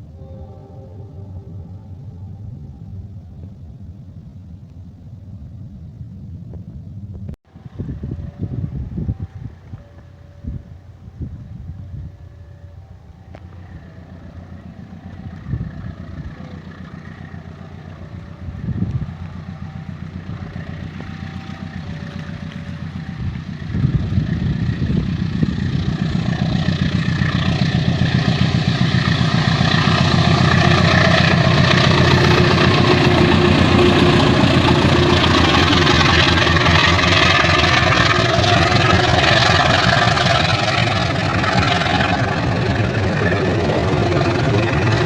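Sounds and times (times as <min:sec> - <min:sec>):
locomotive engine throbbing: 0:00.0 - 0:45.0.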